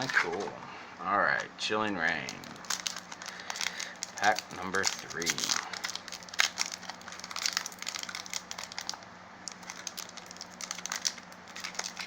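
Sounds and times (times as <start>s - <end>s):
foil wrapper crinkling: 1.3s - 12.0s.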